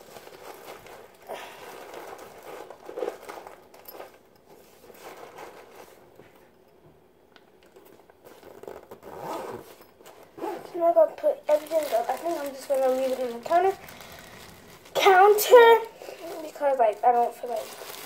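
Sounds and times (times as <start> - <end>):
plastic packaging crinkling: 0.0 - 6.0, 7.6 - 18.0.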